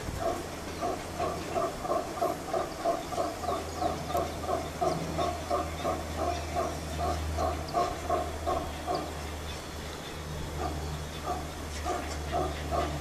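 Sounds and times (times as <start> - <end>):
steady low hum: 0.0 - 13.0
monkey grunting calls: 0.1 - 13.0.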